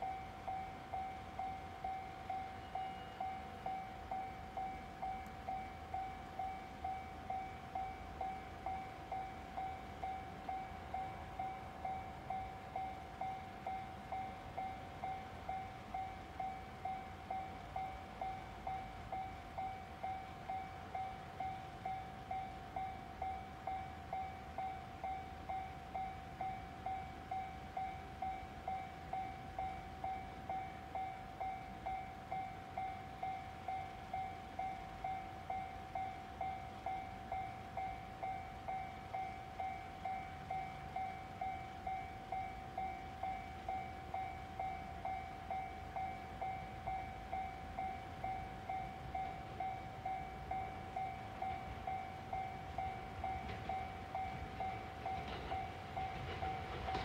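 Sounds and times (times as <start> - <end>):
level-crossing warning chime: 0.0 - 57.0.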